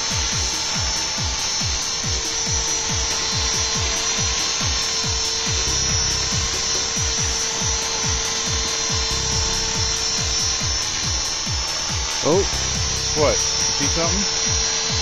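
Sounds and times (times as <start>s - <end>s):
low pulsing rotor: 0.0s - 15.0s
rc helicopter motor whine: 0.0s - 15.0s.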